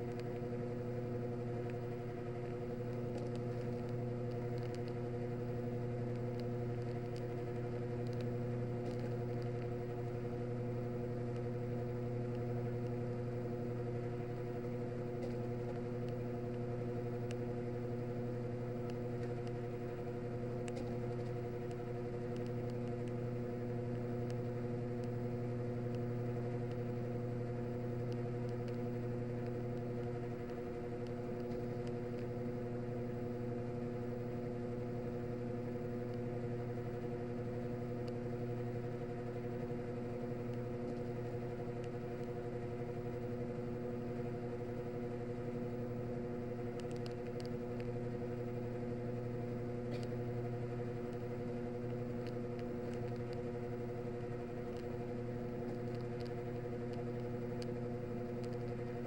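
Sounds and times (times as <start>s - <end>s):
faint ticks: 1.3s - 59.0s.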